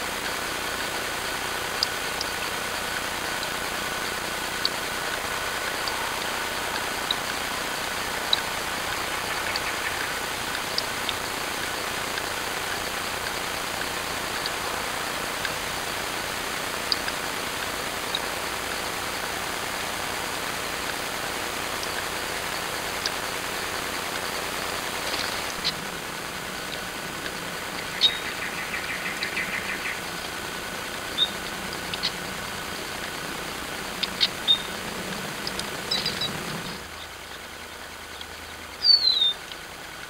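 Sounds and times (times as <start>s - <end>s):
microphone hiss: 0.0s - 40.0s.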